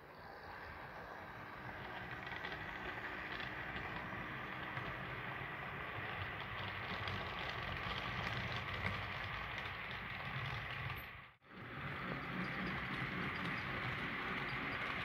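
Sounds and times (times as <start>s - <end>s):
small wheels rolling on rails: 0.0s - 15.0s.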